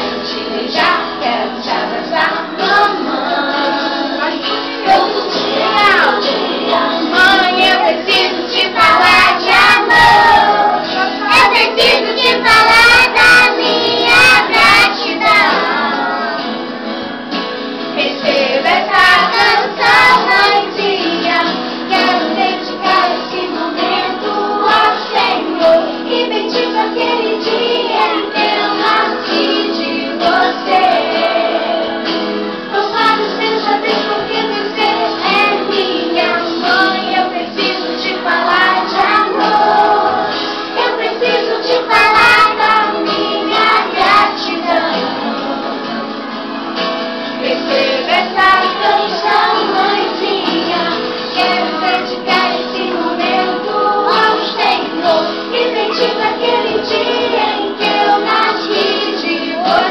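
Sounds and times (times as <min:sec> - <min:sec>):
children singing over music: 0:00.0 - 0:59.9.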